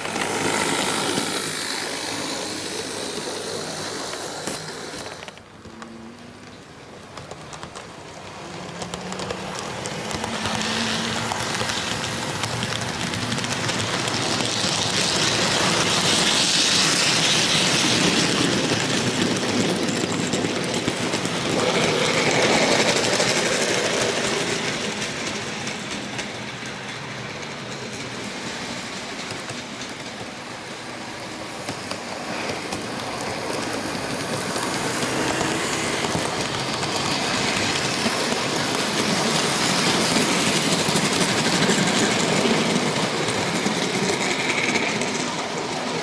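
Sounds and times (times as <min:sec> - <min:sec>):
model train rattling along rails: 0:00.0 - 0:46.0.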